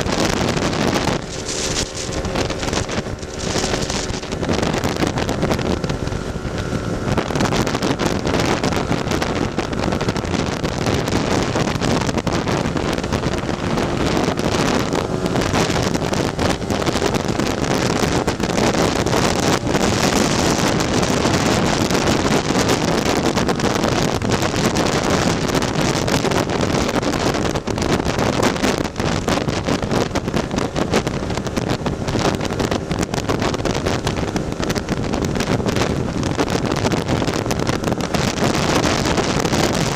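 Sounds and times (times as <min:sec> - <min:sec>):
scooter engine running: 0:00.0 - 0:39.9
wind noise on microphone: 0:00.0 - 0:39.9.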